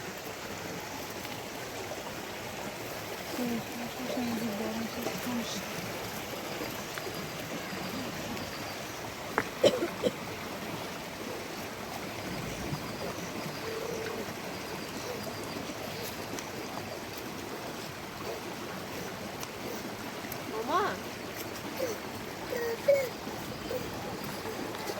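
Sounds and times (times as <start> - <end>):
rushing water: 0.0 - 24.9.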